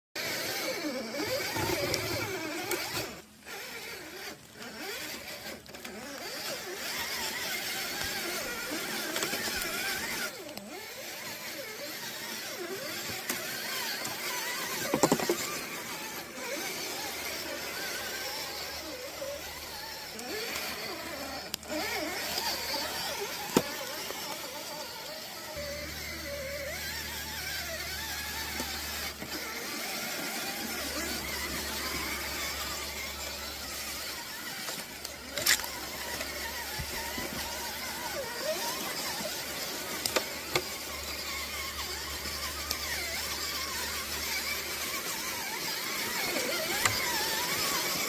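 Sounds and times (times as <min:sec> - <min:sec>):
electric motor and gears whining: 0:00.2 - 0:48.0.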